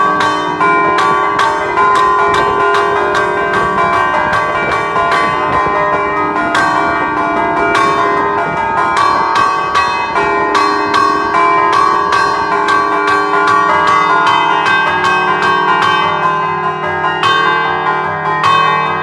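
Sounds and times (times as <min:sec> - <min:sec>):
church bells chiming: 0:00.0 - 0:19.0.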